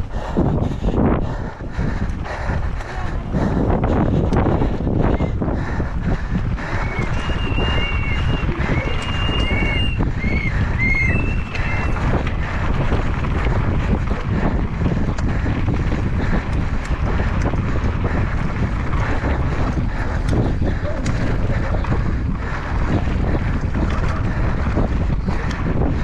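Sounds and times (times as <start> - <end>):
bike clicks and rattles: 0.0 - 26.0
wind on camera microphone: 0.0 - 26.0
tyres rumbling on dirt: 1.6 - 26.0.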